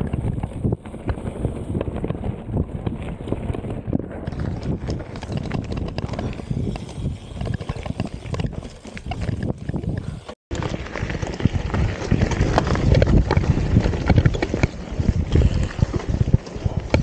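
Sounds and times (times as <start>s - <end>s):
bike clattering over rocks: 0.0s - 17.0s.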